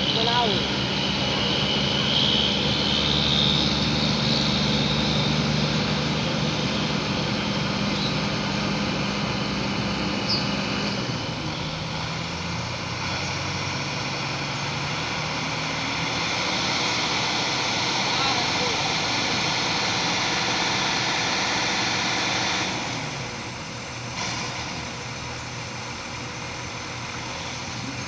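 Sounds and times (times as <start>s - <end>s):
heavy vehicle engine running: 0.0s - 28.0s.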